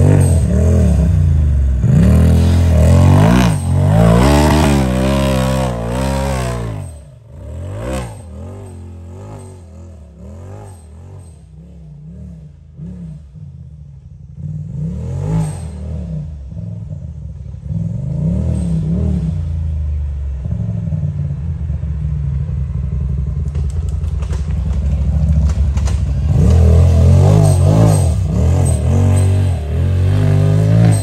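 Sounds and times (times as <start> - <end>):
engine revving: 0.0 - 21.5, 22.8 - 31.0.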